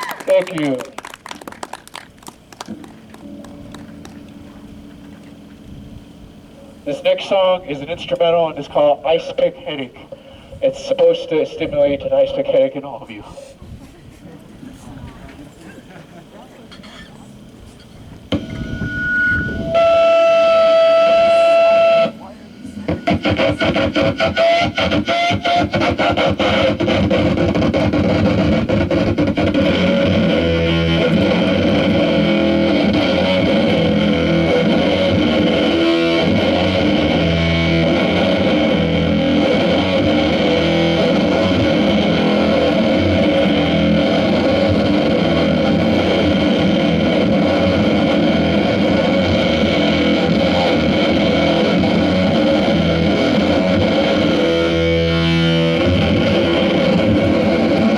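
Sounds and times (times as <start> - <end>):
distorted guitar noise music: 2.3 - 13.3, 17.4 - 57.9.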